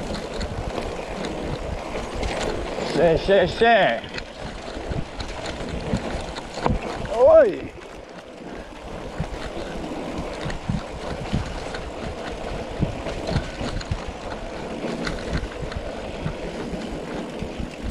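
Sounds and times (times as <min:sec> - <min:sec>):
bike knocks and rattles: 0:00.0 - 0:17.9
bike tyre noise: 0:00.0 - 0:17.9
wind on microphone: 0:00.0 - 0:17.9.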